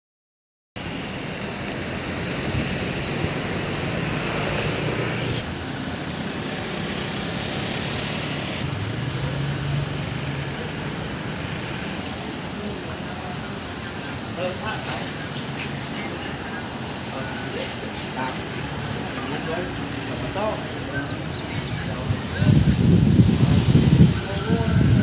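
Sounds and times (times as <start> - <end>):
traffic engines humming: 0.8 - 25.0.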